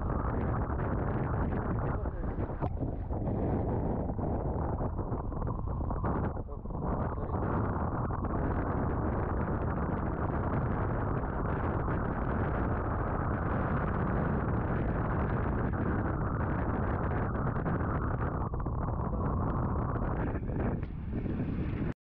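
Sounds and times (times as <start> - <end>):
choppy sea washing: 0.0 - 22.0
wind on microphone: 0.0 - 22.0.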